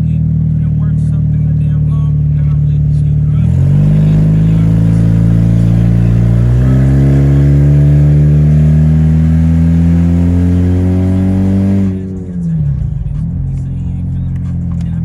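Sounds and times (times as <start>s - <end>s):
rotary engine accelerating: 2.0s - 15.0s.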